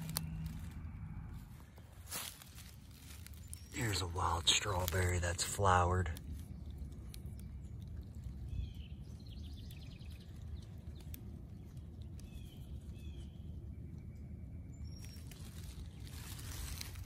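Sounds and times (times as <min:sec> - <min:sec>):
steady low rumble: 0:00.0 - 0:17.0
songbird calls: 0:03.1 - 0:17.0.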